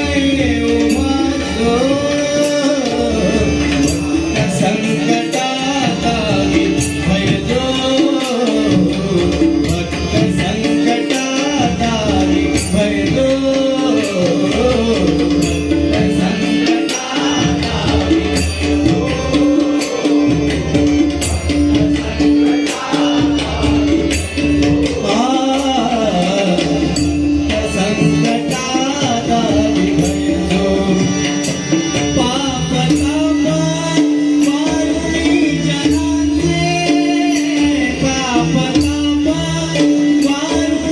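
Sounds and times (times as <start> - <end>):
hand drum: 0.0 - 40.9
man singing devotional song: 0.0 - 40.9.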